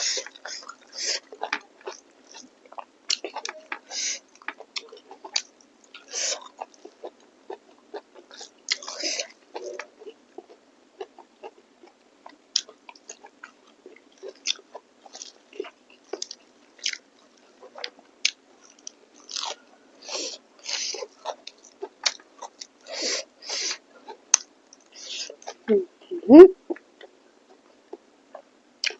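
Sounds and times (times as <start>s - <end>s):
person chewing and smacking: 0.2s - 22.8s, 26.7s - 28.9s.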